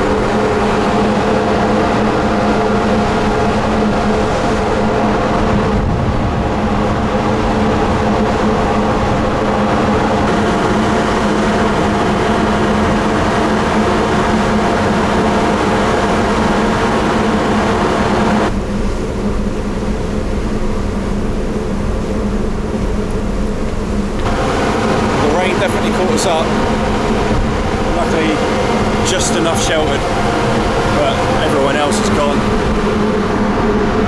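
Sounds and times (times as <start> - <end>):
wind and spray rushing: 0.0 - 19.0, 23.9 - 34.0
ferry engine droning: 0.0 - 34.0.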